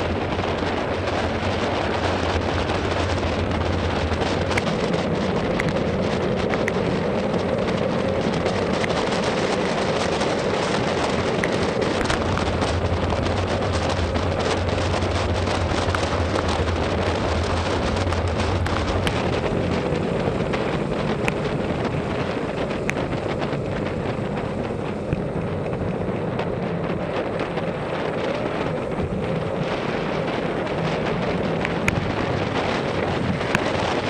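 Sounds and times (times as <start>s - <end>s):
raindrops ticking on camera: 0.0s - 34.0s
wind rushing over microphone: 0.0s - 34.0s.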